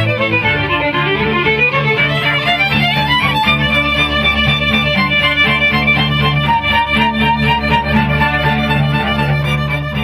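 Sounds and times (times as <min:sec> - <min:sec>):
double bass: 0:00.0 - 0:10.0
violins playing melody: 0:00.0 - 0:10.0.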